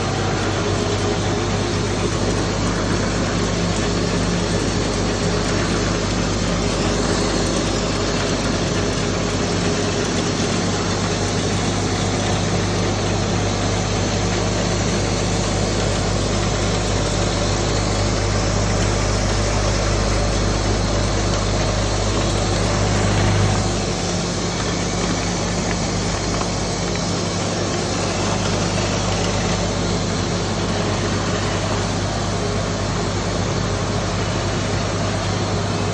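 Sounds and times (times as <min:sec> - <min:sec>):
compressing machine humming: 0:00.0 - 0:35.9
machine whirring: 0:00.0 - 0:35.9.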